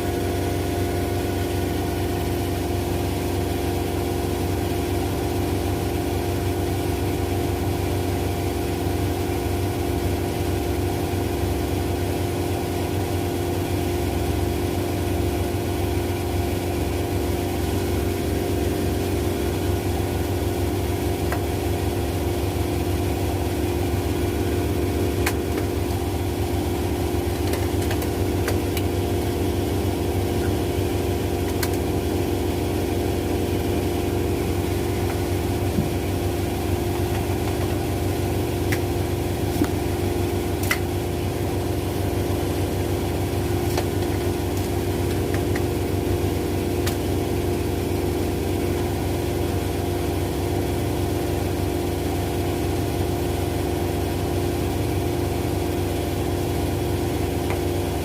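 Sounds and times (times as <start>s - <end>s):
washing machines spinning: 0.0s - 58.0s.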